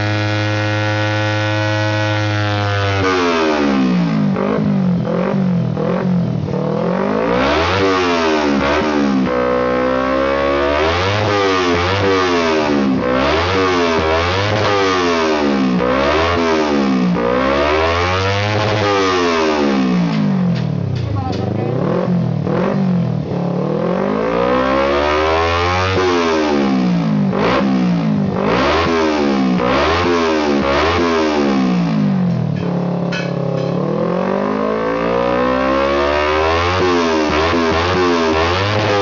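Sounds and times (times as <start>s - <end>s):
engine revving: 0.0s - 39.0s.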